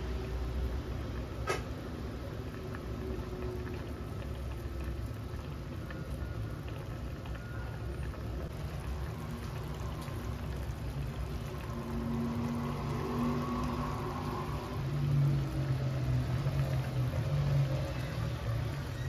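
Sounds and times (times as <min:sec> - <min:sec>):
sauce bubbling with small pops: 0:01.0 - 0:18.7.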